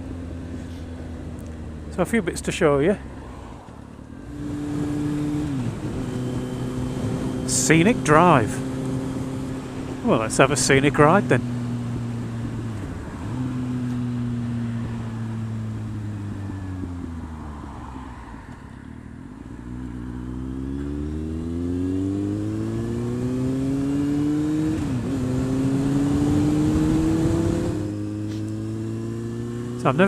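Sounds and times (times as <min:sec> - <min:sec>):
motorcycle engine accelerating: 0:03.7 - 0:17.6, 0:19.4 - 0:30.0.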